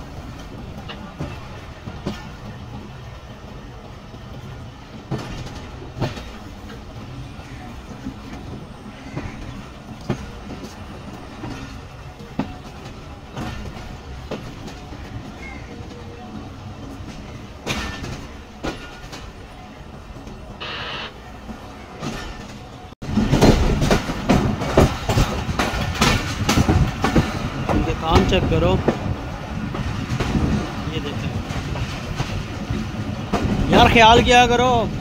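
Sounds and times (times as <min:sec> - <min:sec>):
train rumble on board: 0:00.0 - 0:35.0
wheels clicking on track: 0:00.0 - 0:35.0.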